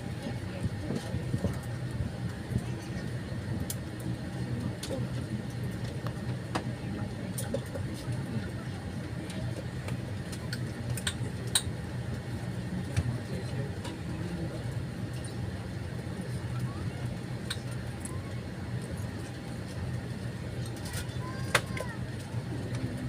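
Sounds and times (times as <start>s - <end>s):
aircraft cabin hum: 0.0s - 23.0s.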